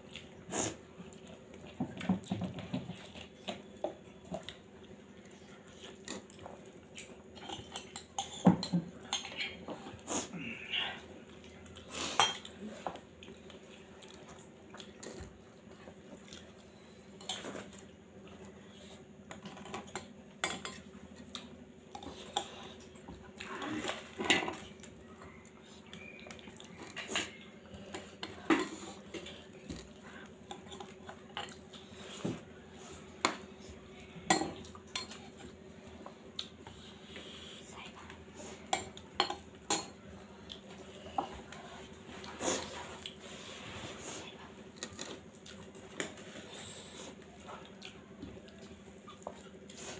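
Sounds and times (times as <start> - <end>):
chewing: 0.0 - 8.3, 11.0 - 32.7, 33.3 - 49.9.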